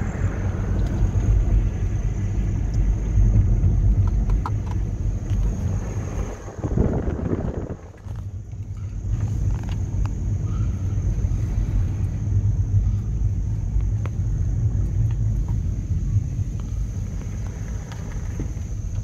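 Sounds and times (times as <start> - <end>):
car rolling slowly: 0.0 - 19.0.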